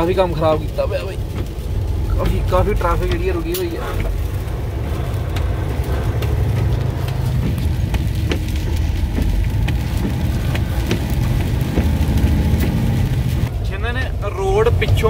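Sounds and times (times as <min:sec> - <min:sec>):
rain ticking on windshield: 0:00.0 - 0:15.0
truck engine and tyres droning: 0:00.0 - 0:15.0.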